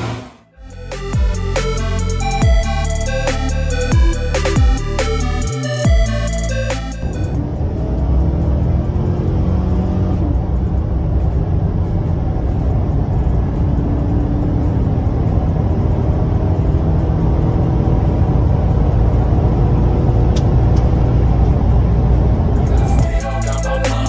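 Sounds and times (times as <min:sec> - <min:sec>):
road noise: 0:00.0 - 0:24.0
truck engine accelerating hard: 0:00.0 - 0:24.0.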